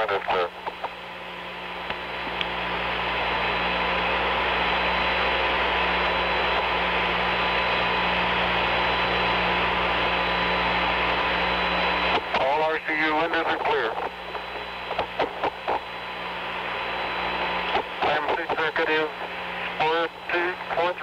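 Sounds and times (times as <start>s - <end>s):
radio static hiss: 0.0s - 21.0s
low hum: 0.1s - 21.0s.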